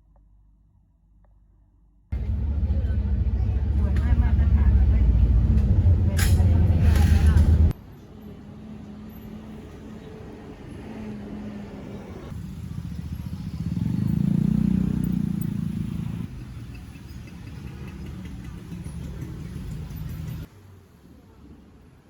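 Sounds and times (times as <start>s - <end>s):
low rumble of traffic: 0.2s - 22.0s.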